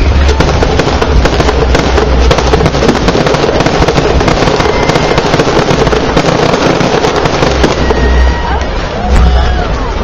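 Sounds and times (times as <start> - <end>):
fireworks crackling and banging: 0.0 - 9.4.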